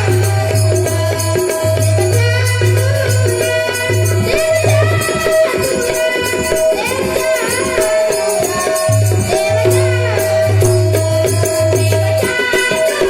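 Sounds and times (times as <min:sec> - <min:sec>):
jingling percussion beat: 0:00.0 - 0:13.0.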